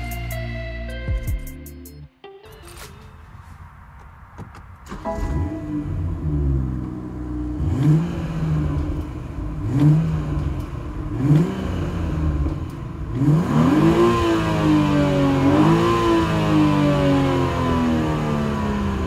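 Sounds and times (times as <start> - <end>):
car engine revving: 3.4 - 19.0.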